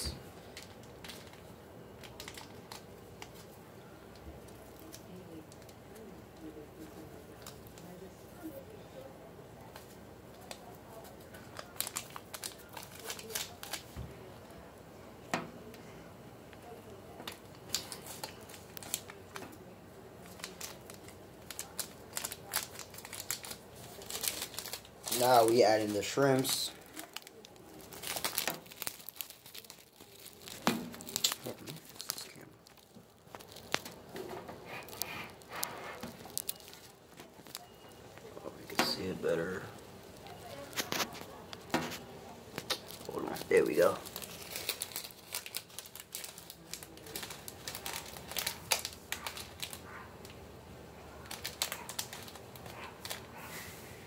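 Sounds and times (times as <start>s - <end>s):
plastic packet crinkling and tearing: 0.2s - 8.0s, 9.7s - 14.0s, 16.6s - 53.4s.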